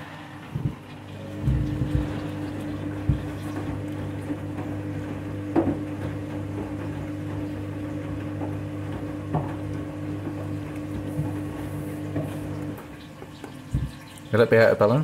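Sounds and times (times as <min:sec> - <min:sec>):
washing machine drain pump humming: 0:00.0 - 0:15.0.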